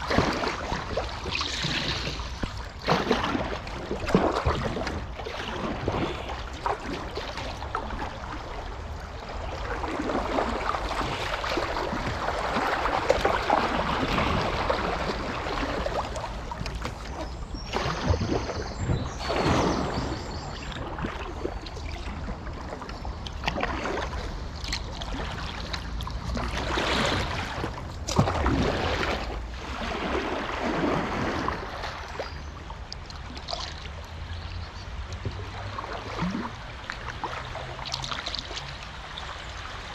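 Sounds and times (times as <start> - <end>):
paddle strokes: 0.0 - 39.9
water rushing and splashing: 0.0 - 39.9
wind rumble on microphone: 0.0 - 39.9.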